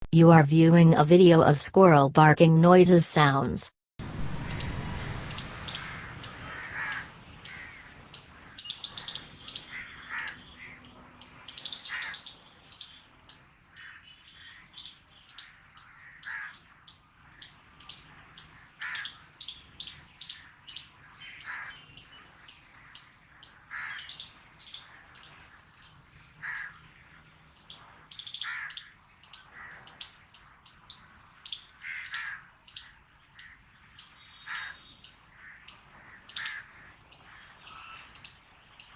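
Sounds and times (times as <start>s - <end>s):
squirrel barking: 4.5s - 26.8s, 27.6s - 38.9s.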